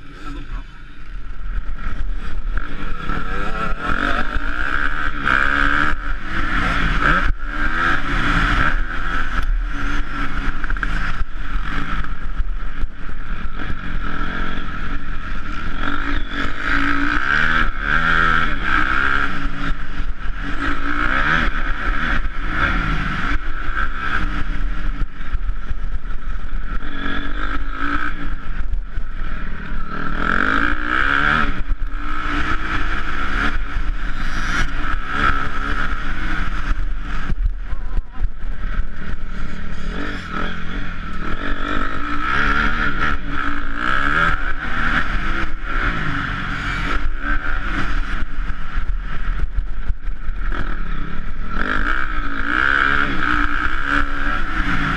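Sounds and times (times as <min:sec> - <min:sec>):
motocross engine revving: 0:00.0 - 0:54.9.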